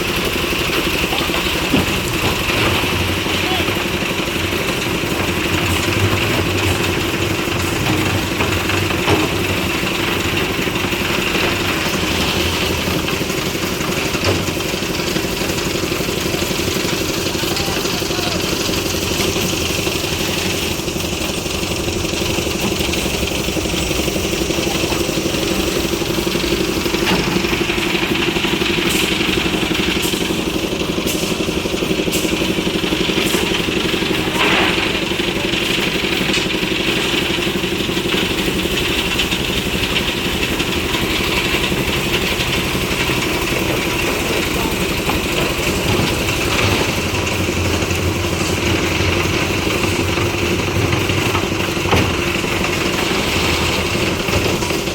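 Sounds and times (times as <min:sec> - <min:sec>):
machinery engine running: 0:00.0 - 0:54.9.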